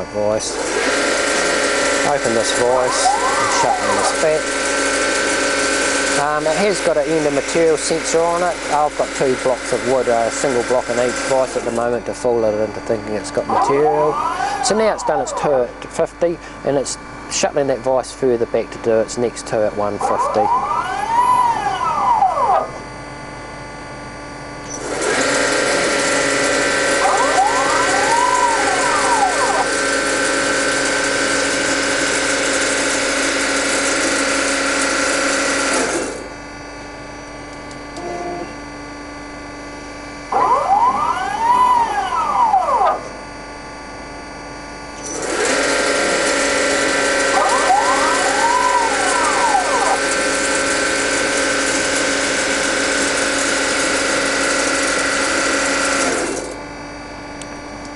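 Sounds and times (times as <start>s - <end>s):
bandsaw machine hum: 0.0s - 57.9s
drive whine: 0.0s - 57.9s.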